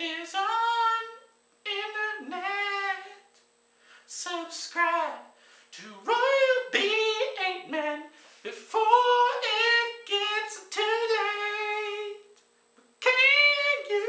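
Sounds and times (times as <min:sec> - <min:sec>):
man singing high held notes: 0:00.0 - 0:03.4, 0:04.1 - 0:12.4, 0:13.0 - 0:14.0.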